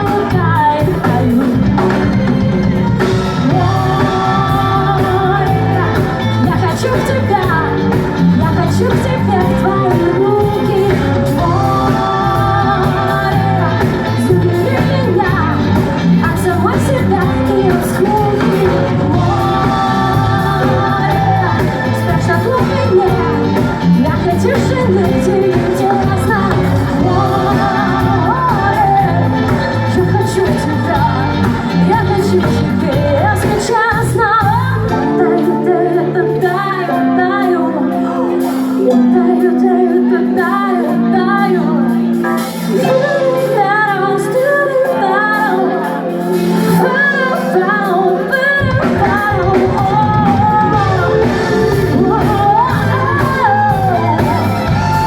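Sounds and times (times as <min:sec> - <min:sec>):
live pop band playing: 0:00.0 - 0:55.0
person singing: 0:00.0 - 0:55.0.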